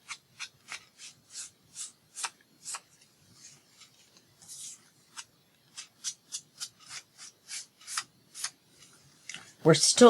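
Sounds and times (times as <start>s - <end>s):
ink applicator scratching paper: 0.0s - 9.0s.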